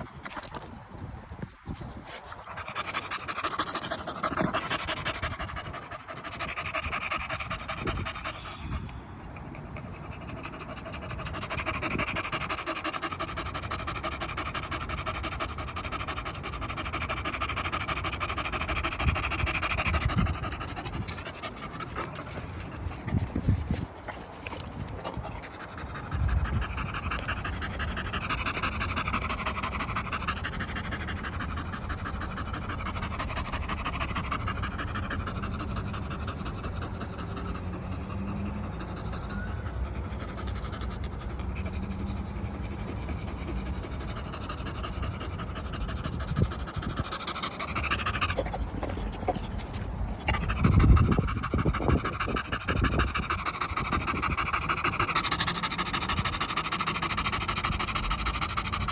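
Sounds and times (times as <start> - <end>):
dog panting: 0.0 - 58.9.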